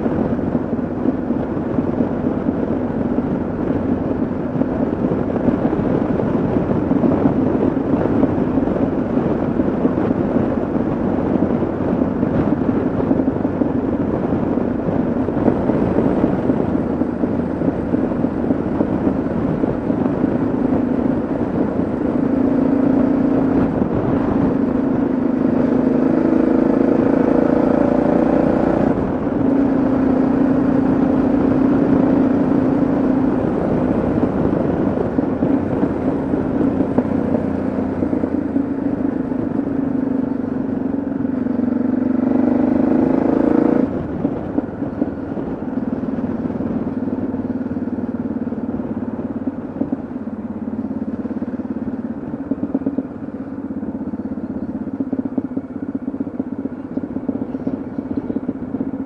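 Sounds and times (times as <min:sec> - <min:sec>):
wind rush: 0:00.0 - 0:53.8
motorcycle engine running: 0:00.0 - 0:59.0.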